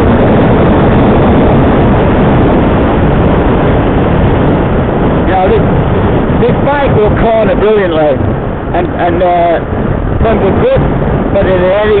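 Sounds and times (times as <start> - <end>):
wind rush and road noise: 0.0 - 12.0.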